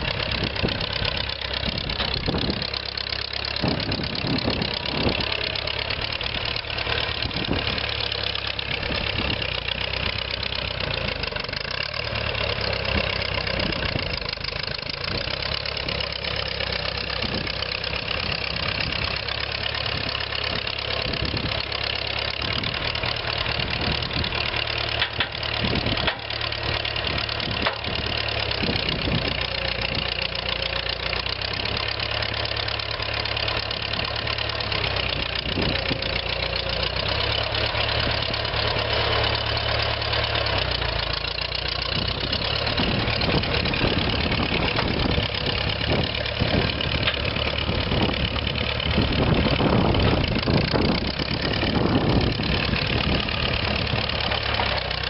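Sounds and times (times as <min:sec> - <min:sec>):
loader clunks: 0:00.0 - 0:55.0
tractor engine running: 0:00.0 - 0:55.0.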